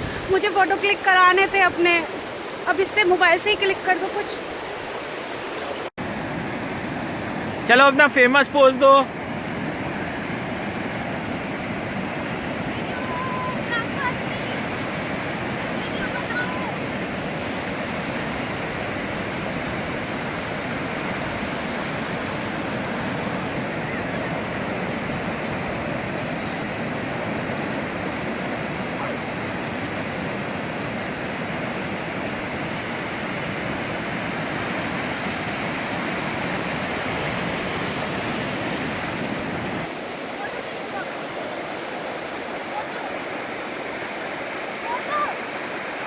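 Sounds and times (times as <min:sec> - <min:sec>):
ocean surf roaring: 0:00.0 - 0:46.0.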